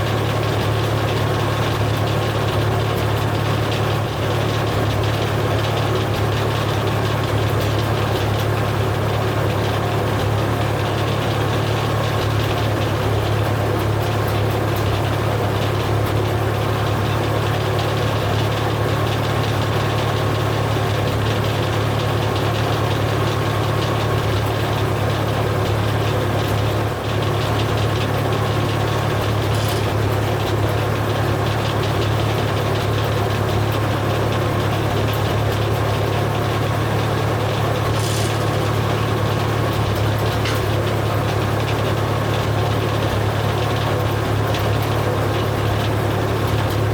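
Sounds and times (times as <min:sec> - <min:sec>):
sawmill running: 0:00.0 - 0:46.9.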